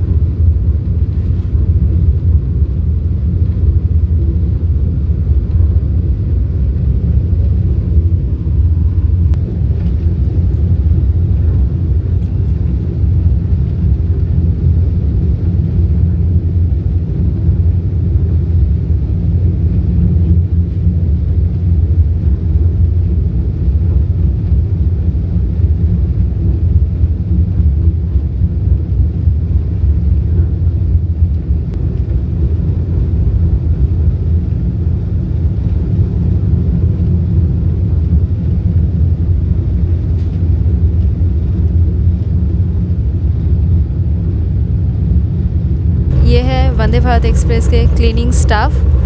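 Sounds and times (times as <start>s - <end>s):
train running rumble: 0.0s - 49.0s.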